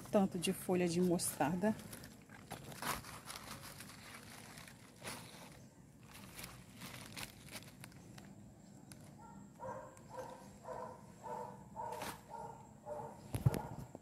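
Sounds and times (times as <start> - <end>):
rustling and crinkling of leaves: 0.0 - 14.0.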